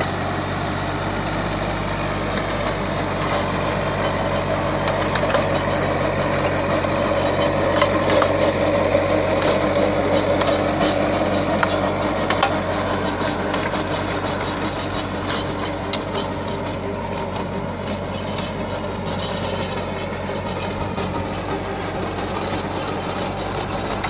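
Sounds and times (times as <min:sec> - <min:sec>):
rotavator churning soil: 0:00.0 - 0:24.0
tractor diesel engine running: 0:00.0 - 0:24.0.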